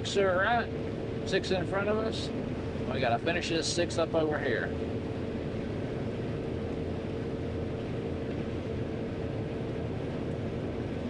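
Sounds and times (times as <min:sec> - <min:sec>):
combine harvester drone: 0:00.0 - 0:11.0.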